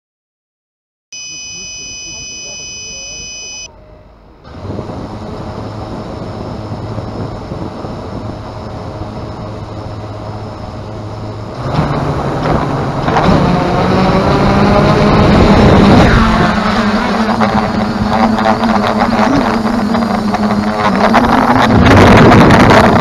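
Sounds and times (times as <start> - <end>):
drone motors and propellers spinning: 4.6 - 23.0.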